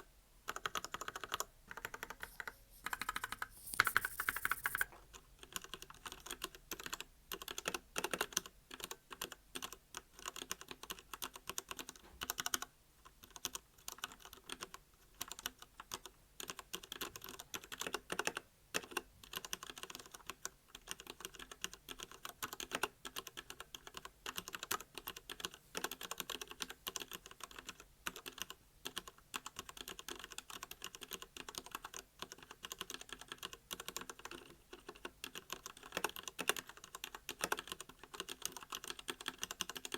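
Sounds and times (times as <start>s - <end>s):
mechanical keyboard typing: 0.5s - 39.9s.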